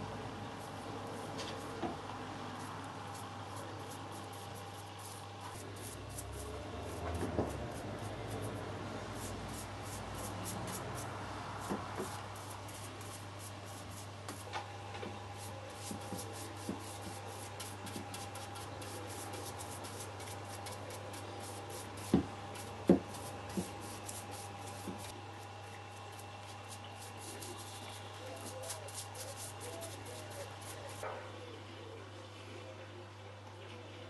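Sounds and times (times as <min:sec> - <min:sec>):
brush strokes on wood: 0:00.6 - 0:14.5, 0:15.3 - 0:31.0.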